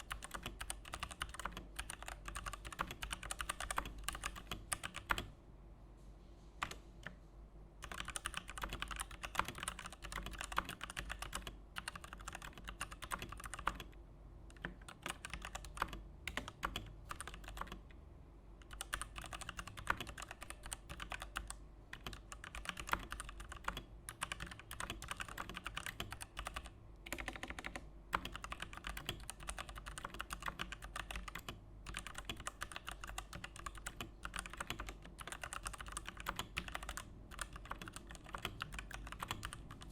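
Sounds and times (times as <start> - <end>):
mechanical keyboard typing: 0.0 - 5.3, 6.6 - 7.2, 7.8 - 17.8, 18.6 - 39.9.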